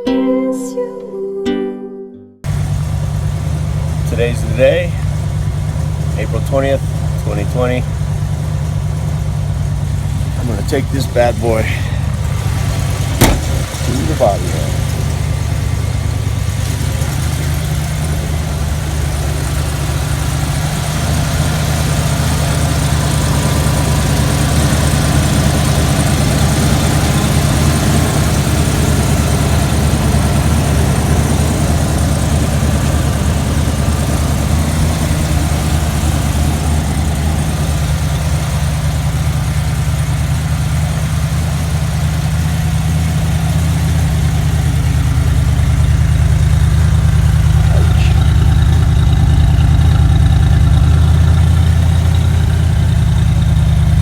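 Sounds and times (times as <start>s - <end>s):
car engine running steadily: 2.4s - 54.0s.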